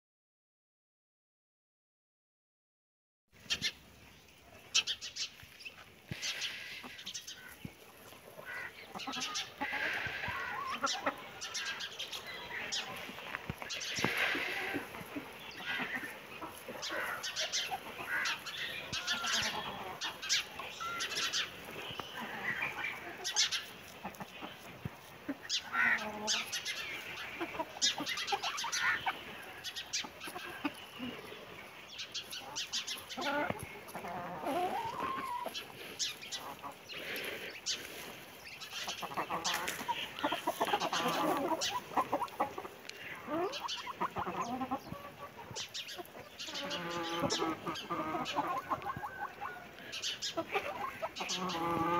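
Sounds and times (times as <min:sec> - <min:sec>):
chickens clucking: 0:03.4 - 0:51.9.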